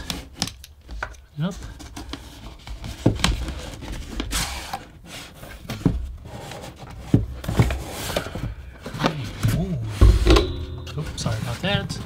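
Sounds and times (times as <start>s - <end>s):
cardboard rustling: 0.0s - 10.4s.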